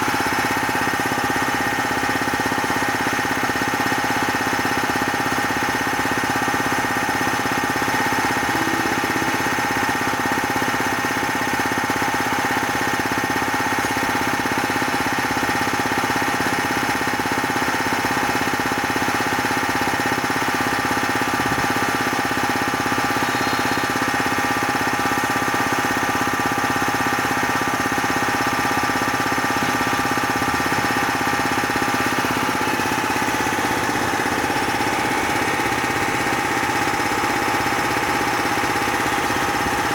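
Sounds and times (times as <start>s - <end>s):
piston compressor running: 0.0s - 39.9s.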